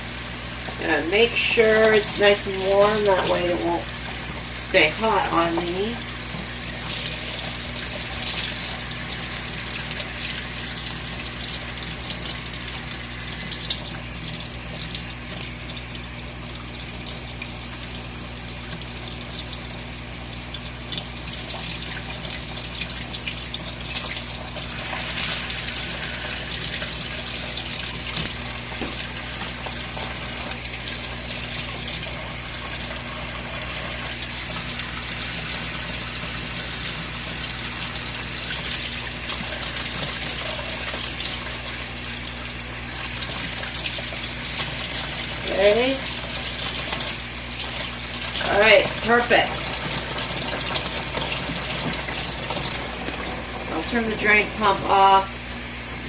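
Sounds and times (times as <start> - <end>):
drain pump humming: 0.0 - 56.0
water running in washing machine: 0.0 - 56.0.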